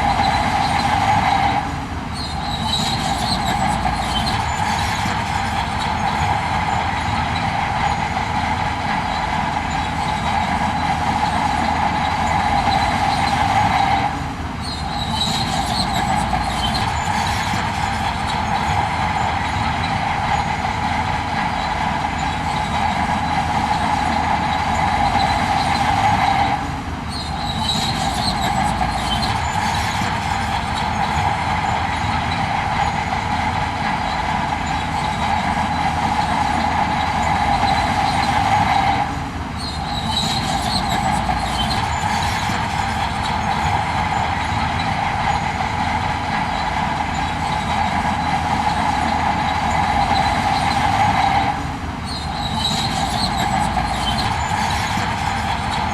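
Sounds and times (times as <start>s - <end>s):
heavy machinery droning: 0.0s - 55.9s.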